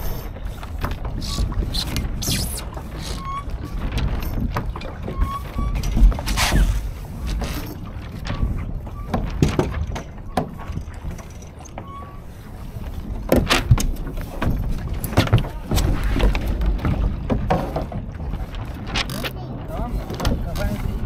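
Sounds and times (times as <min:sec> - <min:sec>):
water splashing against hull: 0:00.0 - 0:21.0
wind rumbling on microphone: 0:00.0 - 0:21.0
boat fittings knocking and clicking: 0:00.7 - 0:11.9, 0:13.1 - 0:19.4.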